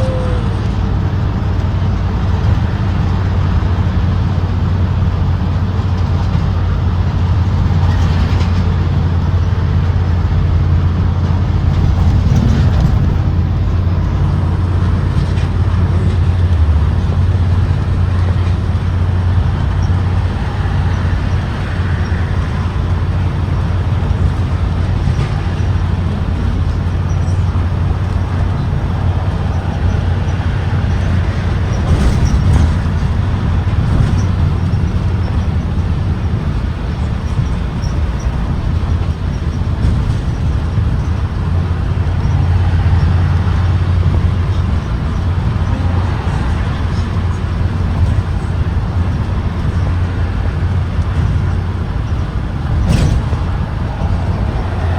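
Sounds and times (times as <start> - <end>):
bus engine hum: 0.0 - 54.9
road noise: 0.0 - 54.9.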